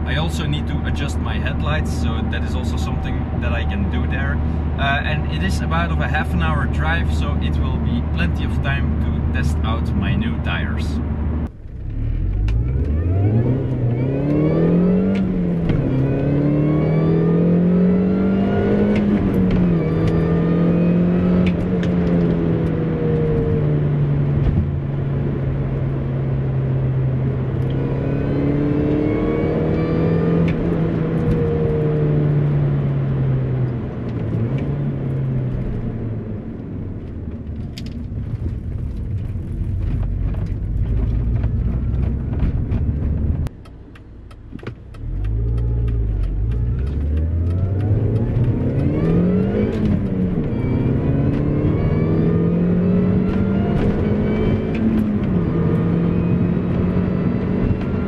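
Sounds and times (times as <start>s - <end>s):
car engine accelerating: 0.0s - 58.0s
low road rumble: 0.0s - 58.0s.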